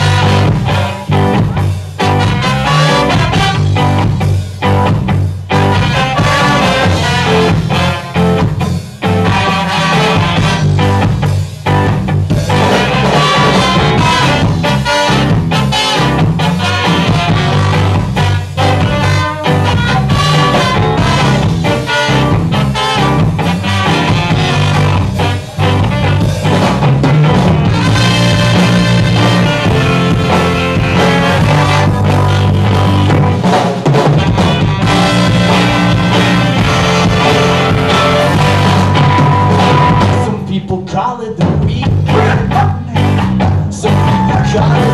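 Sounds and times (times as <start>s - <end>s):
ska band playing live: 0.0s - 44.9s.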